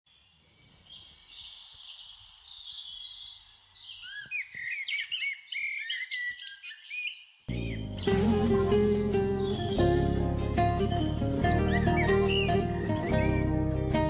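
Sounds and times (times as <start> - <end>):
birds chirping and whistling: 0.5 - 14.0.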